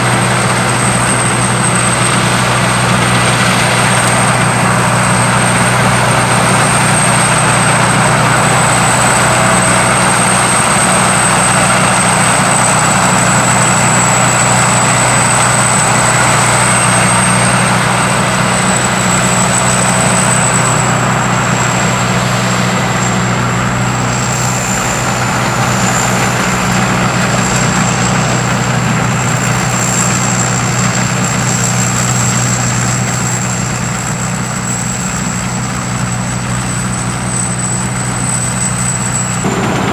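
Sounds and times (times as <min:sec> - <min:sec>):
combine harvester engine running: 0:00.0 - 0:39.9
high machinery whine: 0:00.0 - 0:39.9.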